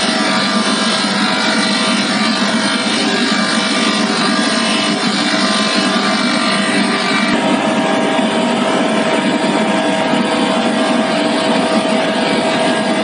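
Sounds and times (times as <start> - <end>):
constant whine: 0.0 - 13.0
industrial burner roaring: 0.0 - 13.0.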